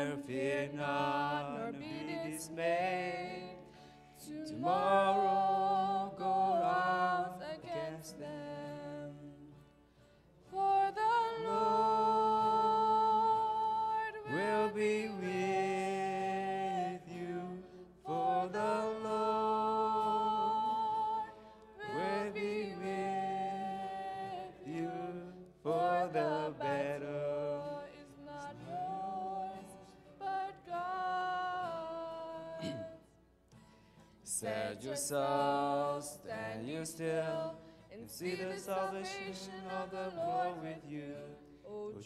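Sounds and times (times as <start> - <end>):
people singing together: 0.0 - 9.7, 10.4 - 33.1, 34.2 - 42.0
strummed acoustic guitar: 0.0 - 42.0.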